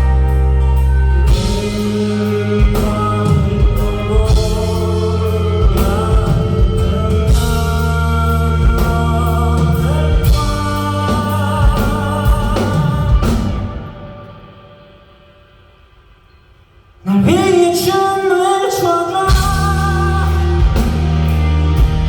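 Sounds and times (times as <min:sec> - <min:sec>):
rock band playing: 0:00.0 - 0:15.3, 0:19.3 - 0:22.0.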